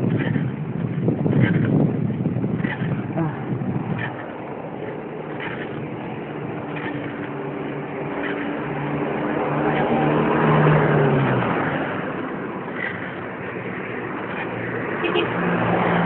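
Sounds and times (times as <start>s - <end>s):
vehicle engine passing by: 2.6s - 16.0s.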